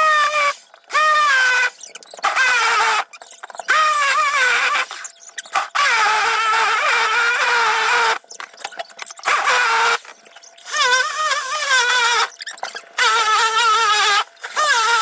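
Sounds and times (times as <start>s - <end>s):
jigsaw cutting countertop: 0.0s - 15.0s.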